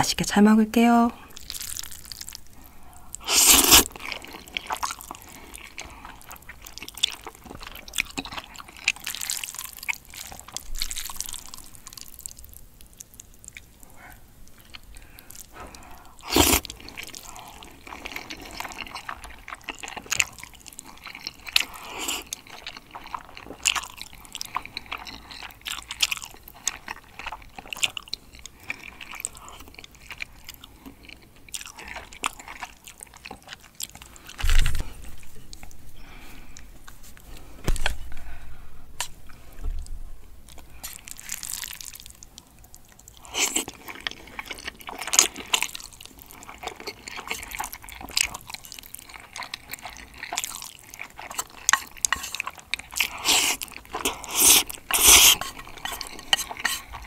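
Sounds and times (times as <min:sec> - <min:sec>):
noodles slurped and chewed: 0:01.2 - 0:34.9, 0:40.6 - 0:57.0.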